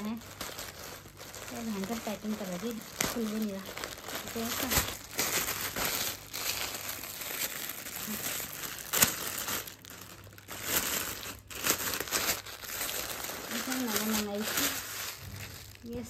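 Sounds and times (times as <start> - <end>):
plastic packaging crinkling: 0.0 - 16.0
sharp plastic crackle: 0.0 - 16.0.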